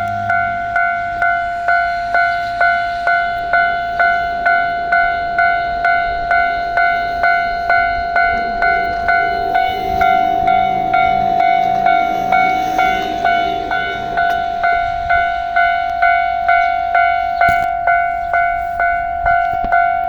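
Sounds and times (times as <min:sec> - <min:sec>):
level crossing warning bell ringing: 0:00.0 - 0:20.0.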